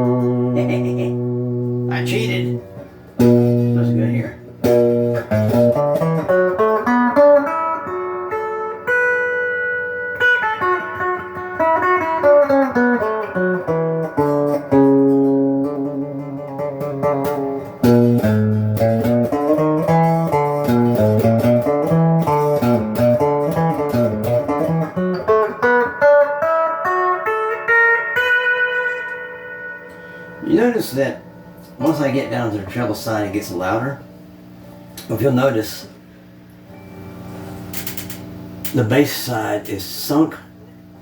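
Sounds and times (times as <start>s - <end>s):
electric guitar single notes: 0.0s - 35.2s, 36.5s - 38.9s.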